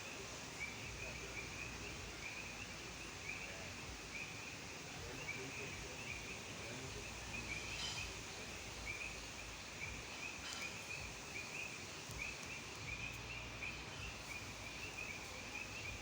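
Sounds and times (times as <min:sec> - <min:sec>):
frogs chirping in chorus: 0:00.0 - 0:16.0.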